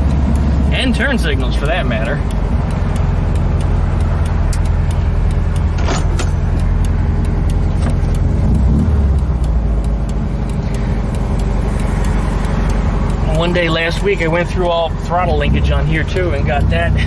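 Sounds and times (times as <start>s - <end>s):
car engine running: 0.0s - 17.0s
light fast ticking: 0.0s - 17.0s.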